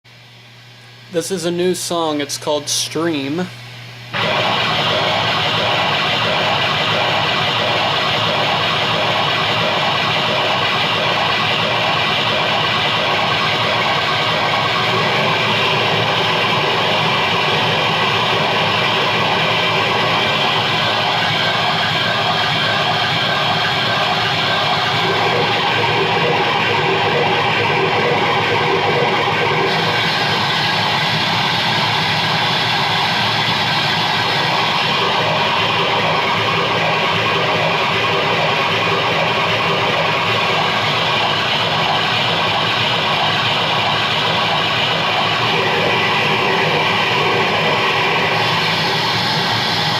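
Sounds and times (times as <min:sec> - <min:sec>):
electronic keyboard through amplifier: 0:04.1 - 0:49.9.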